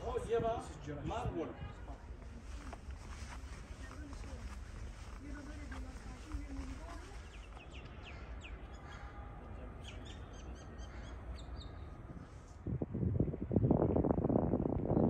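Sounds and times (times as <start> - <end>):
songbirds chirping: 0.0 - 12.6.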